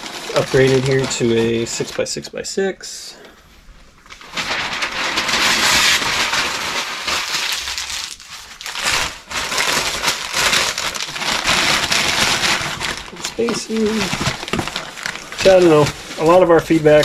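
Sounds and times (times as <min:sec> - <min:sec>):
packing material crinkling: 0:00.0 - 0:02.1, 0:04.0 - 0:17.0.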